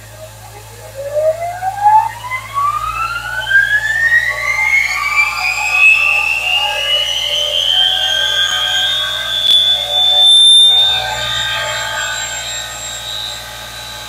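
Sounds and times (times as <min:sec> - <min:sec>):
turbine generator whine rising: 0:00.0 - 0:14.0.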